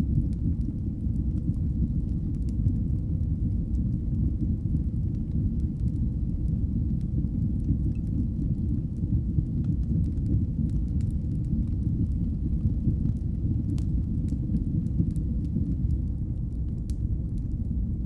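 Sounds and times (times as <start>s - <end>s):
faint fire crackles and pops: 0.0s - 18.0s
fireplace fire rumbling: 0.0s - 18.0s.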